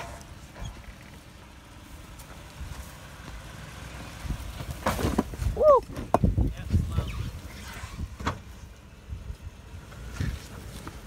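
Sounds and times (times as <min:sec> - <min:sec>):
truck engine running low: 0:00.0 - 0:11.0.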